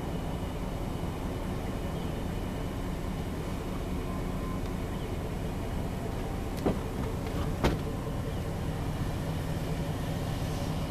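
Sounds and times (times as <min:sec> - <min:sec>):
vehicle driving on dirt track: 0:00.0 - 0:10.9.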